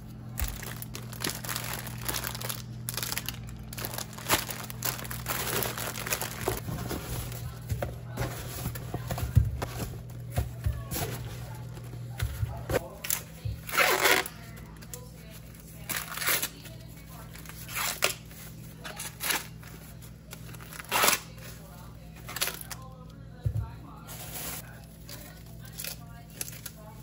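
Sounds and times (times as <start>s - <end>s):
plastic packaging crinkling: 0.0s - 12.1s, 12.8s - 23.1s, 24.0s - 27.0s.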